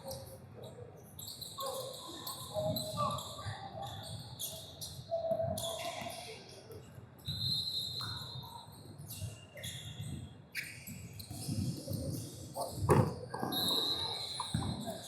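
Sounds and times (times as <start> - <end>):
sharp squeaks on the court: 0.0 - 15.0.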